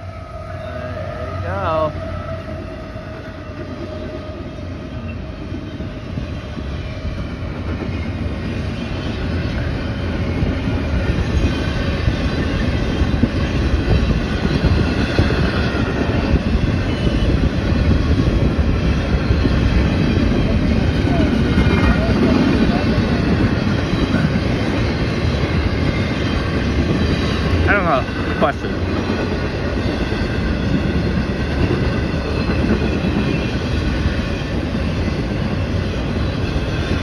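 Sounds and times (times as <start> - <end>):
freight train passing: 0.0 - 37.0.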